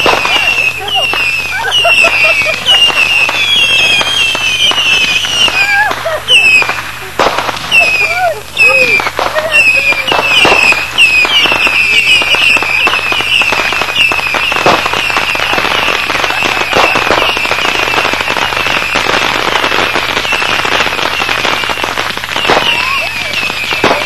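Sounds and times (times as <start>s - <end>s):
firecracker pops and crackle: 0.0s - 24.0s
firework whistles: 0.0s - 24.0s
loud firework bang: 0.0s - 24.0s.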